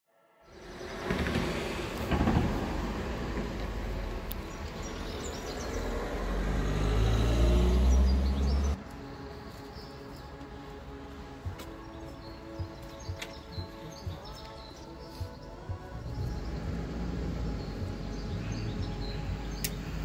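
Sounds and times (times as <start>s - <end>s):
street noise: 0.4s - 20.0s
tram rumble and motor hum: 0.5s - 14.8s, 15.4s - 20.0s.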